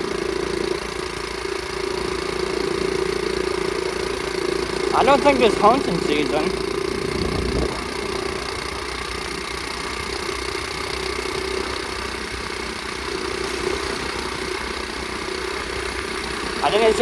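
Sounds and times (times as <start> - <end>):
small motorbike engine running: 0.0 - 17.0.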